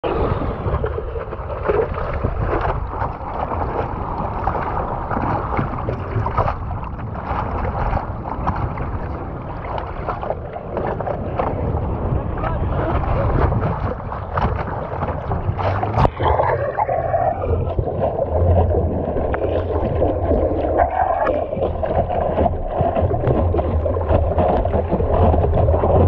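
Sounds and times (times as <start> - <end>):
water splashing against surfboard: 0.0 - 26.0
wind rumbling on microphone: 0.0 - 26.0.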